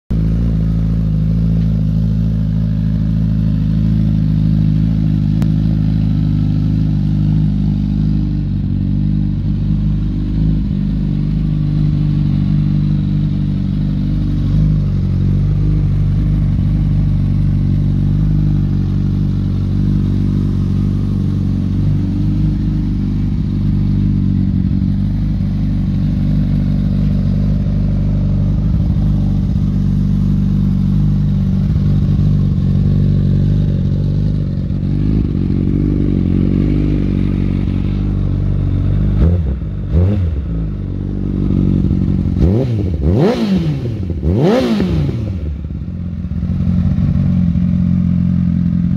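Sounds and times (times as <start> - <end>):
motorcycle engine idling: 0.1 - 48.9.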